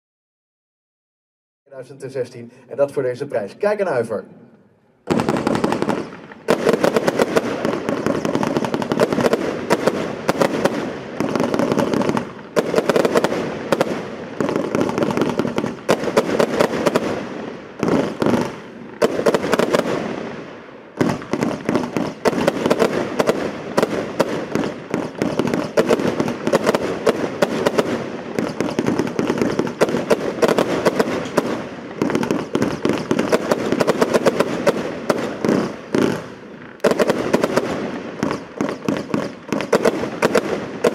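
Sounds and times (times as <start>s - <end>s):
fireworks cake firing rapid shots: 5.0s - 40.9s.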